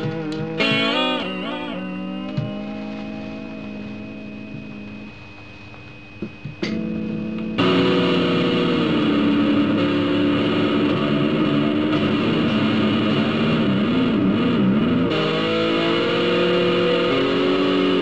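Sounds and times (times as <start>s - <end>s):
distorted electric guitar chord: 0.0s - 18.0s.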